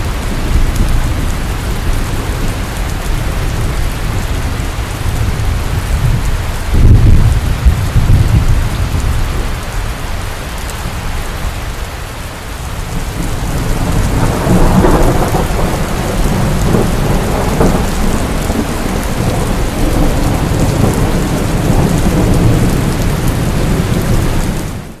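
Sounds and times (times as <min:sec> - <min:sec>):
thunder rolling: 0:00.0 - 0:09.7, 0:12.9 - 0:24.9
heavy rain: 0:00.0 - 0:25.0.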